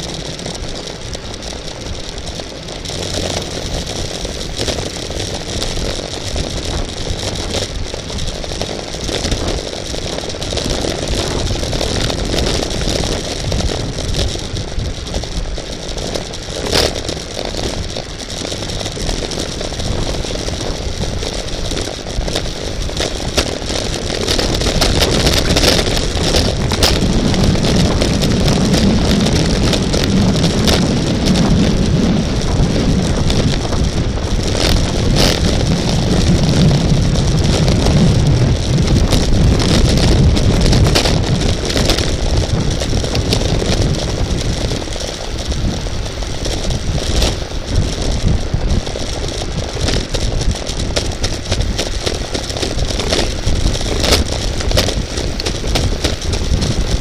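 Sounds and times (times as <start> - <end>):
bicycle clicks and rattles: 0.0 - 57.0
wind rushing over microphone: 0.0 - 57.0.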